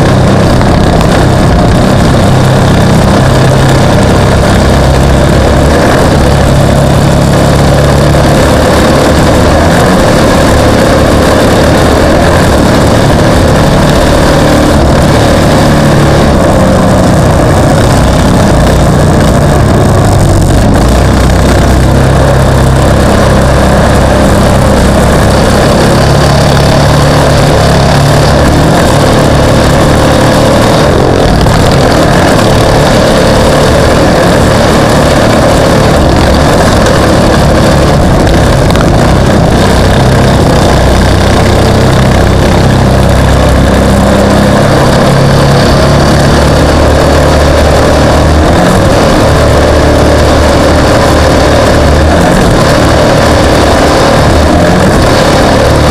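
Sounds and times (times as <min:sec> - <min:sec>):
racing vehicle engine: 0:00.0 - 0:55.9.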